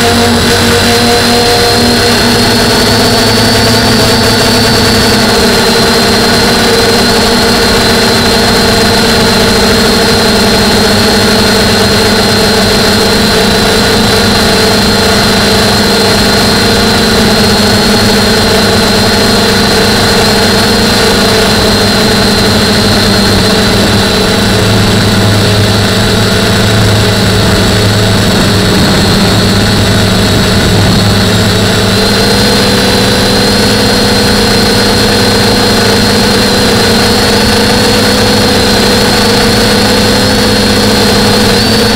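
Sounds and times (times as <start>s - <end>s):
quadcopter motors whining: 0.0s - 41.9s.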